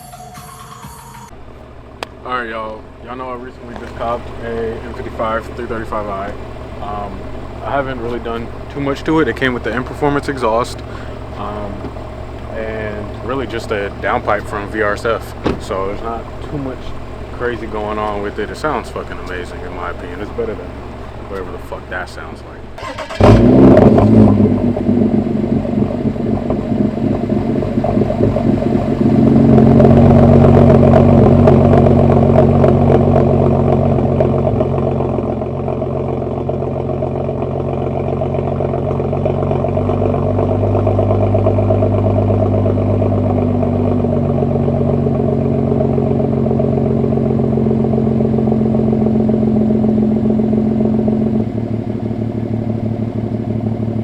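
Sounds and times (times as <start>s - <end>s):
car exhaust at steady revs: 1.3s - 54.0s.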